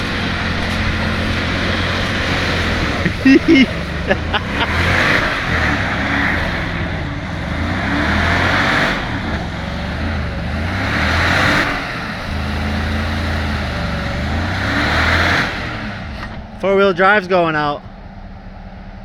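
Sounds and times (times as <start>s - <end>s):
pickup engine revving: 0.0s - 19.0s.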